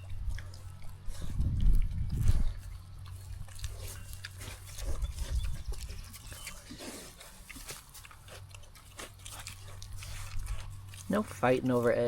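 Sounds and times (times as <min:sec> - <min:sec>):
pigs chewing and smacking: 0:00.0 - 0:12.0
pigs grunting: 0:00.0 - 0:12.0.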